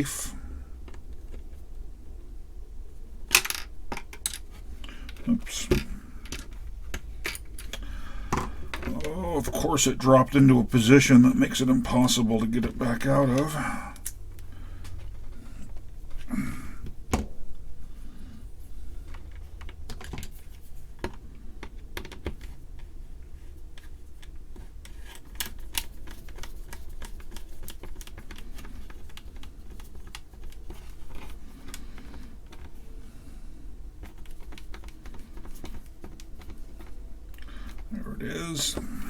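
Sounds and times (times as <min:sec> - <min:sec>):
steady low hum: 0:00.0 - 0:19.7, 0:22.6 - 0:39.0.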